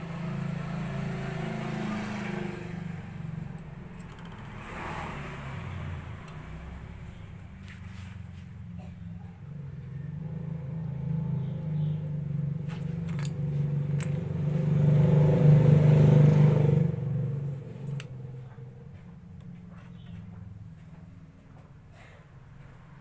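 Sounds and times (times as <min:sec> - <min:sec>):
motor vehicle passing: 0:00.0 - 0:23.0.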